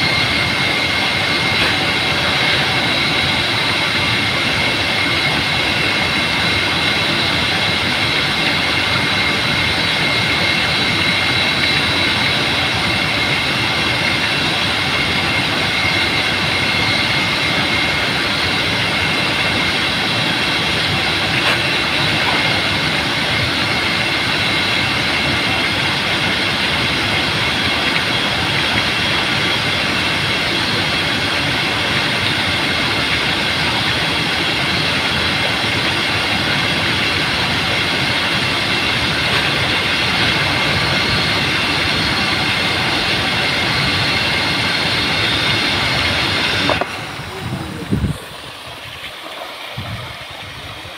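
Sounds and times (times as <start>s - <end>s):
thin steady whine: 0.0s - 50.9s
water jet rushing roar: 0.0s - 50.9s.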